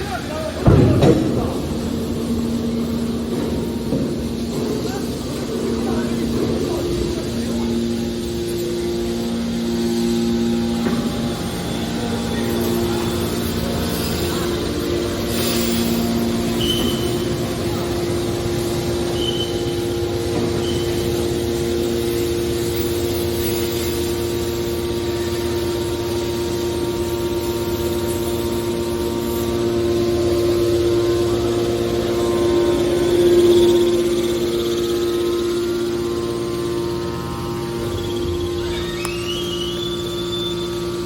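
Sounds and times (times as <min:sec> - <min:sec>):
hydraulic baler machine hum: 0:00.0 - 0:41.0.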